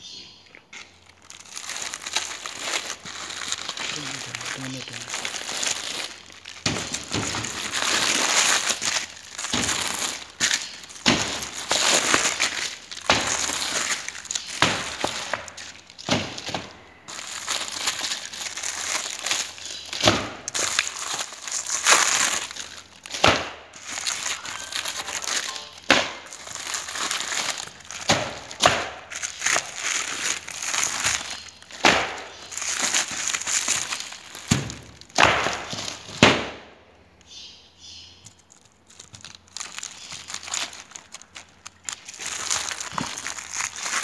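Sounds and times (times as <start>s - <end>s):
crunching and crinkling: 0.3s - 36.7s, 38.1s - 44.0s.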